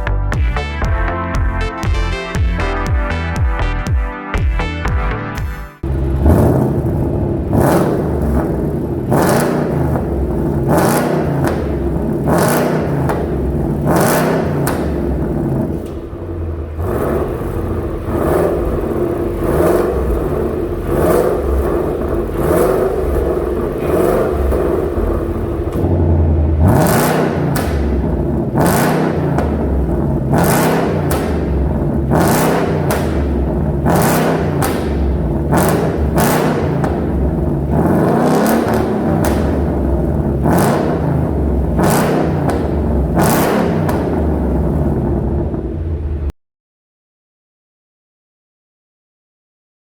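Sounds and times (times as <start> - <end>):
car engine revving: 5.8 - 46.3
exhaust cracks: 5.8 - 46.3.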